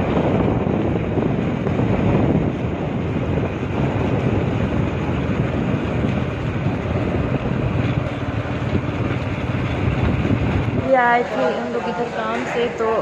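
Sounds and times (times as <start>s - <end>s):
moving vehicle running noise: 0.0s - 13.0s
wind buffeting microphone: 0.0s - 13.0s.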